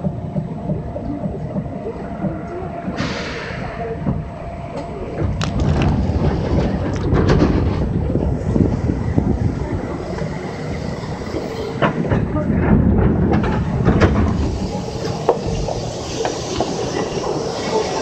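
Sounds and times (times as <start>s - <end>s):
train cabin rumble: 0.0s - 18.0s
wheels clacking over rail joints: 0.0s - 18.0s.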